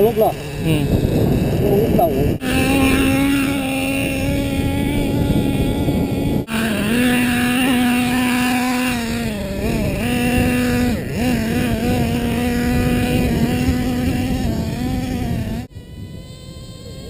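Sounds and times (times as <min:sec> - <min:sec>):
small engine buzzing whine: 0:00.0 - 0:17.0.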